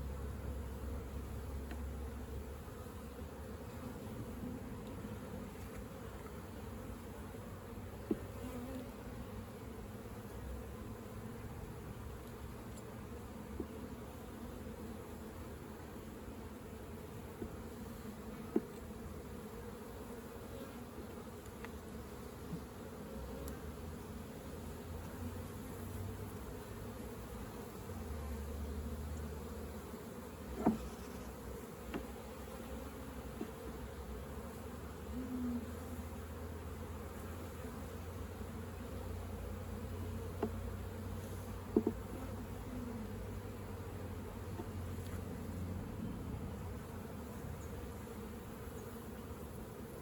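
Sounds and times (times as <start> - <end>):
honeybees buzzing: 0.0 - 50.0.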